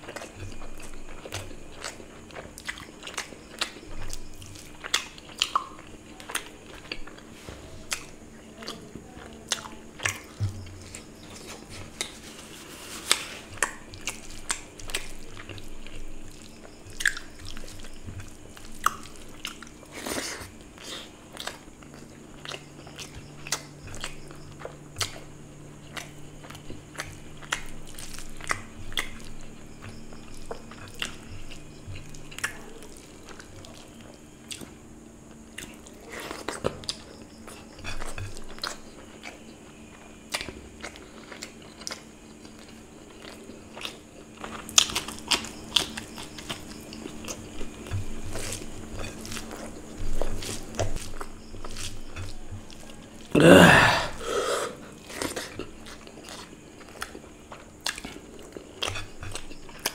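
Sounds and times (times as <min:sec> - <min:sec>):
man chewing food: 0:00.0 - 0:59.9.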